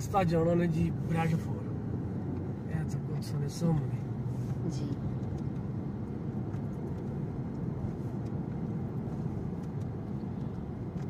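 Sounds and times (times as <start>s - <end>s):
car engine rumble: 0.0s - 11.0s
tyres on wet road: 0.0s - 11.0s.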